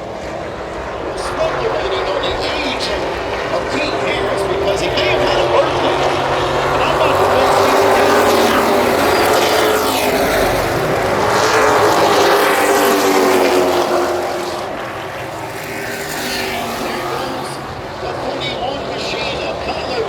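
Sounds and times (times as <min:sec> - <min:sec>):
race truck engines passing: 0:00.0 - 0:20.0.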